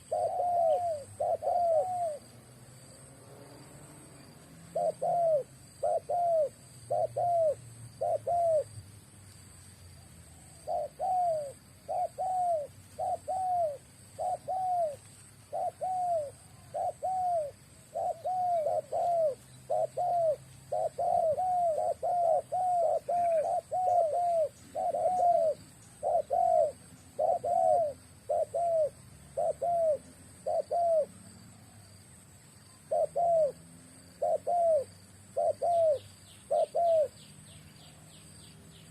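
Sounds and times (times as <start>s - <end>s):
dove cooing: 0.0s - 2.4s, 4.2s - 8.8s, 10.0s - 31.2s, 32.8s - 37.2s.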